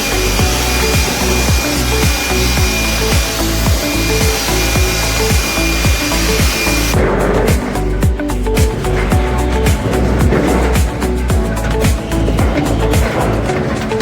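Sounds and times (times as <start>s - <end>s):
background music with beat: 0.0s - 14.0s
machine grinding with high whine: 0.0s - 14.0s.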